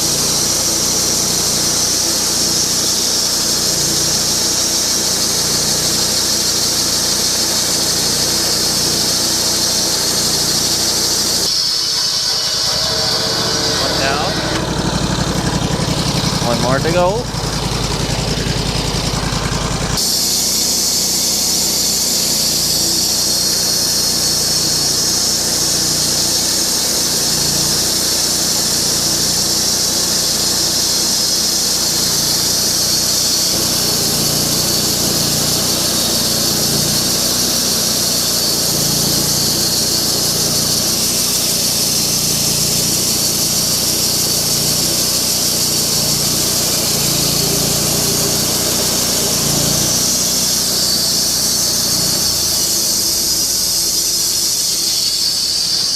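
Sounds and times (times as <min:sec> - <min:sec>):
saw blade squealing in wood: 0:00.0 - 0:55.9
sawmill engine under load: 0:00.0 - 0:55.9.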